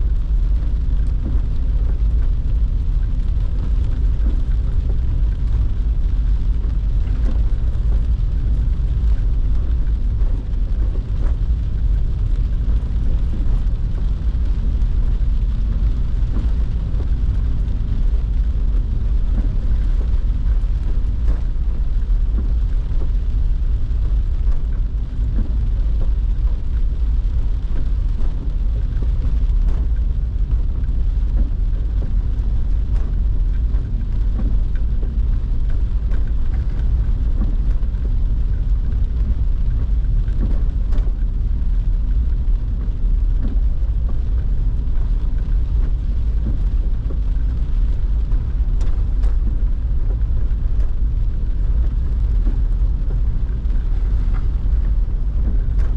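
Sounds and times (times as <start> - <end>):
rain and wet tyres hissing: 0.0 - 55.9
road and engine rumble: 0.0 - 55.9.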